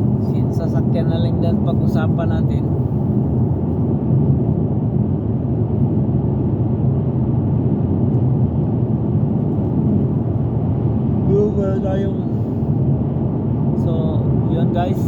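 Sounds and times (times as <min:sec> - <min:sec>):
car cabin engine and road rumble: 0:00.0 - 0:15.0.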